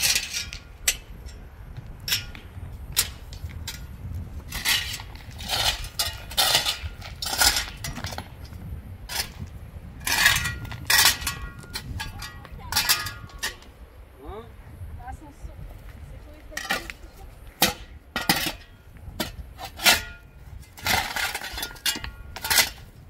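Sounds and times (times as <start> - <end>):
shovel scraping stony ground: 0.0 - 1.1, 2.0 - 13.7, 16.5 - 23.0.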